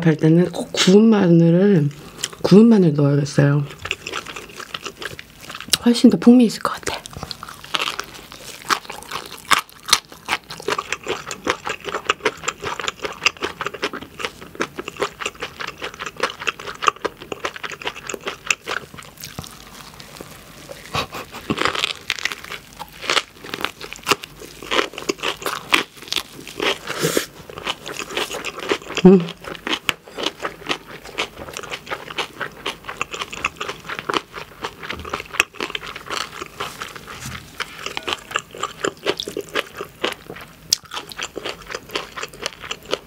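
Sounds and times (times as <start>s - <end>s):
chewing with sharp clicks: 3.7s - 5.9s, 6.8s - 19.6s, 21.5s - 36.6s, 37.6s - 43.0s.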